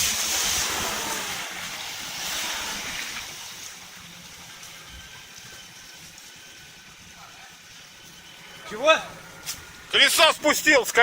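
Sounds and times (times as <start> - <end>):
hissing spray of water and mud: 0.0 - 10.3
off-road vehicle engine: 0.0 - 11.0.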